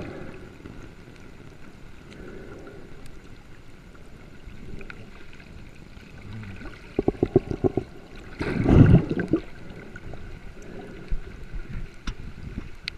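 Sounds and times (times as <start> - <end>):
rush of water: 0.0 - 12.9
water sloshing and gurgling: 0.0 - 12.9.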